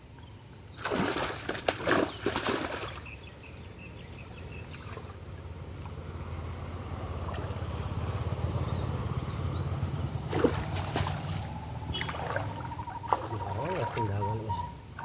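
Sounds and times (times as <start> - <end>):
stream water sloshing and splashing: 0.0 - 9.2, 9.9 - 15.0.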